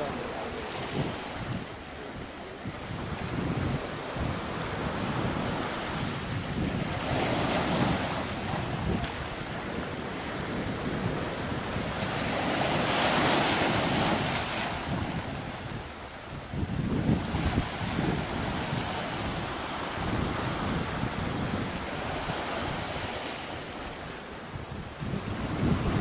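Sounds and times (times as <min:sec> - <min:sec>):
surf breaking on shore: 0:00.0 - 0:26.0
wind buffeting microphone: 0:00.0 - 0:26.0.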